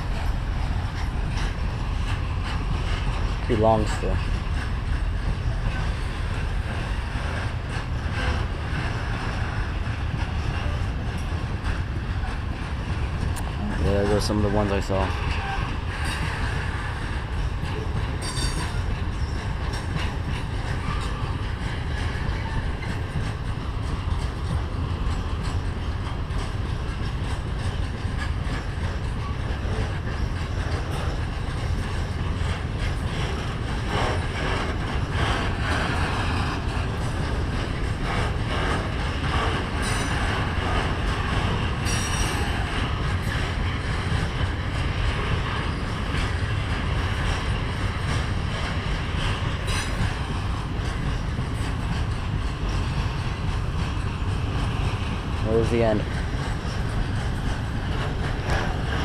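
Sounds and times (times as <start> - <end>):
freight train wagons rolling: 0.0 - 59.0
wheels clattering over rails: 0.0 - 59.0.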